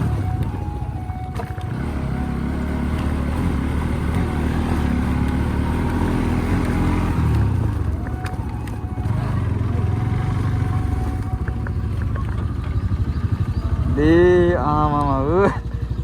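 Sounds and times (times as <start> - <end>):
motorcycle engine running under load: 0.0 - 16.0.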